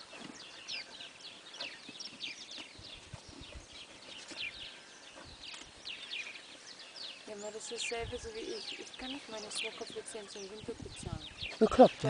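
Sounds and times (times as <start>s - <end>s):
horse hooves walking on sand: 0.0s - 11.4s
small birds chirping: 0.0s - 12.0s.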